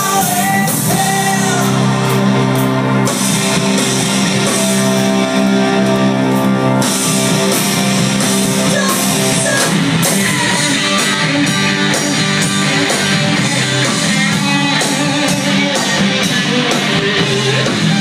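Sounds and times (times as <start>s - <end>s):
bass notes: 0.0s - 18.0s
electric guitar: 0.0s - 18.0s
steady drum beat: 0.0s - 18.0s.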